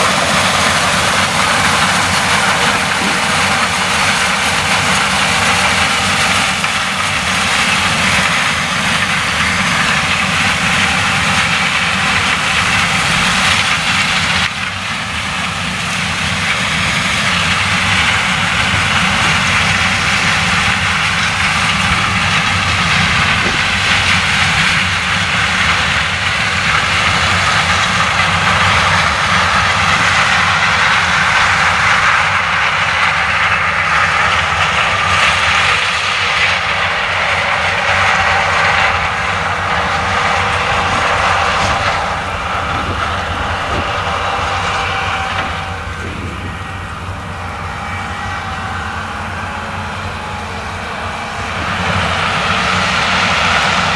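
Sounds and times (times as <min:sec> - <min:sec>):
combine harvester engine droning: 0:00.0 - 0:53.9.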